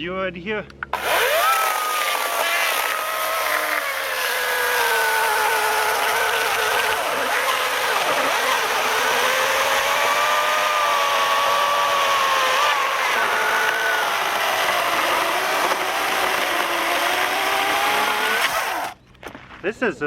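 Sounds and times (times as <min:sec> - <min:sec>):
chainsaw cutting through log: 0:00.9 - 0:19.0.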